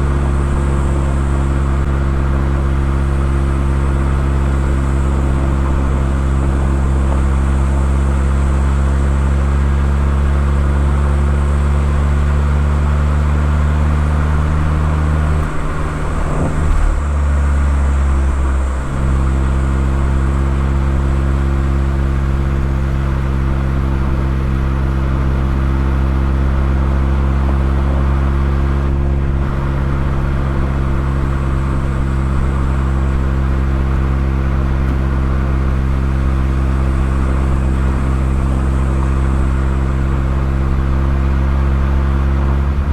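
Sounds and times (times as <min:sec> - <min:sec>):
car engine cruising: 0:00.0 - 0:42.9.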